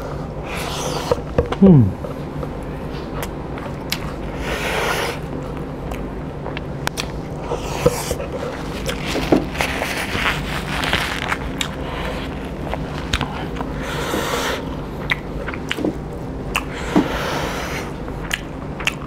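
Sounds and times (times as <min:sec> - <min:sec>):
steady low hum: 0:00.0 - 0:19.0
man chewing food: 0:00.5 - 0:19.0.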